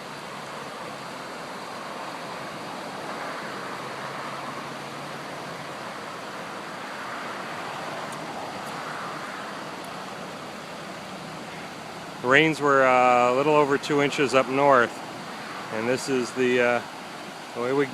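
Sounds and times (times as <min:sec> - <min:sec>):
floodwater rushing in rapids: 0:00.0 - 0:17.9.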